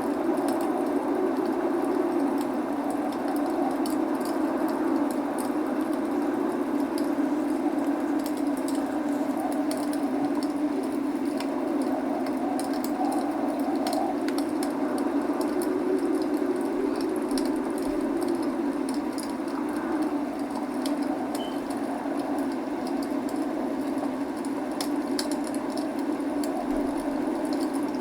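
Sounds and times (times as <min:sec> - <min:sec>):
log fire crackling: 0:00.0 - 0:28.0
rain falling: 0:00.0 - 0:28.0.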